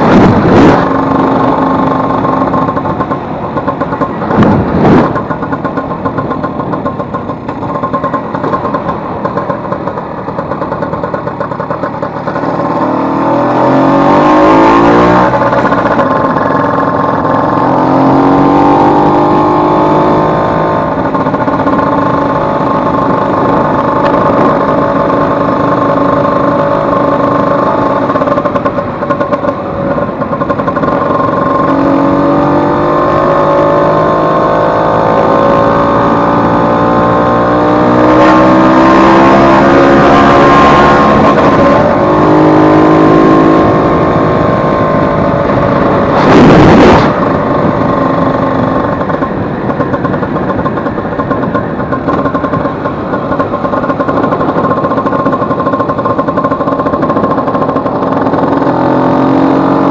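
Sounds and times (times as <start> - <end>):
two-stroke scooter engine revving: 0.0 - 59.9.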